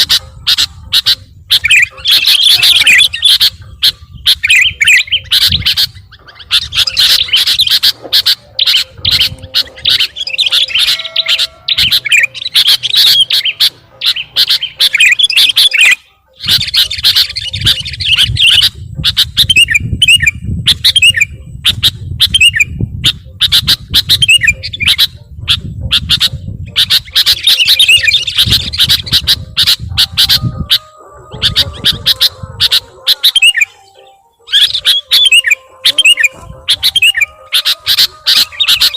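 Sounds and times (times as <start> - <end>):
chicks begging chirps: 0.0 - 38.9.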